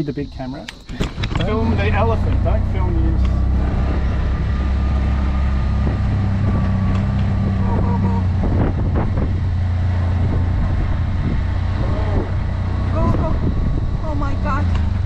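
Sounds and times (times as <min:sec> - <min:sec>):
auto-rickshaw engine running: 0:01.0 - 0:15.0.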